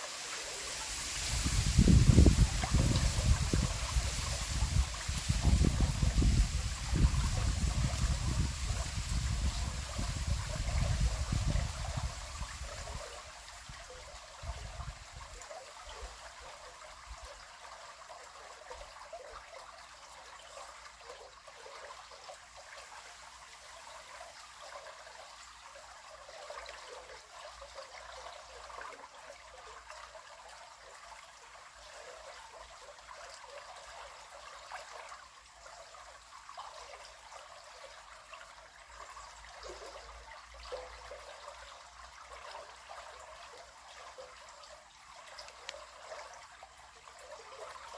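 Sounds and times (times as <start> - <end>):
river water flowing: 0.0 - 14.4, 15.4 - 47.9.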